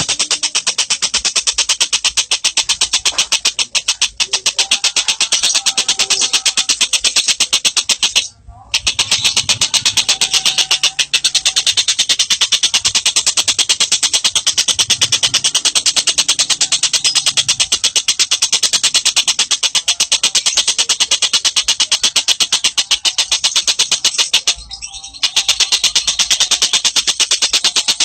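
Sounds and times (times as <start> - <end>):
songbird trilling: 0.0 - 28.0.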